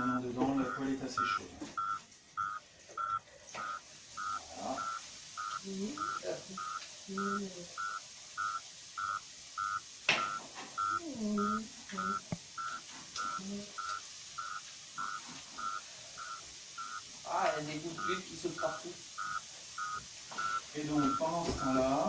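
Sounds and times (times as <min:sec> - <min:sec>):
electronic beeper short beeps: 0:00.0 - 0:17.0, 0:18.0 - 0:21.8.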